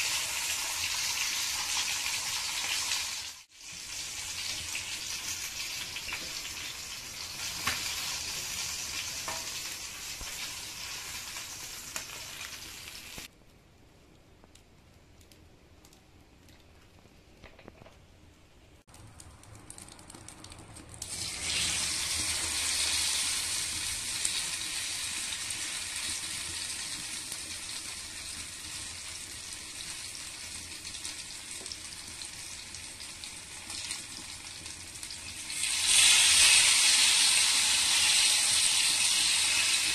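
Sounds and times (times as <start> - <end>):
fish sizzling in hot oil: 0.0 - 13.3, 19.7 - 39.9.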